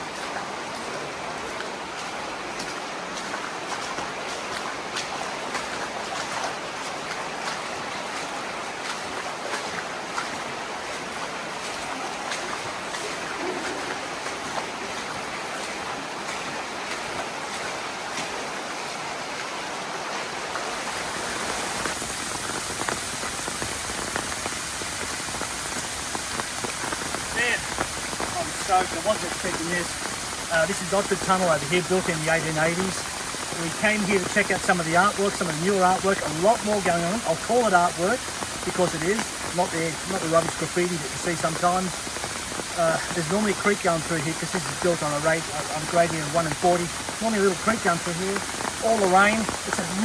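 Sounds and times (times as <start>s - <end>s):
creek rushing: 0.0s - 50.0s
heavy rain: 0.0s - 50.0s.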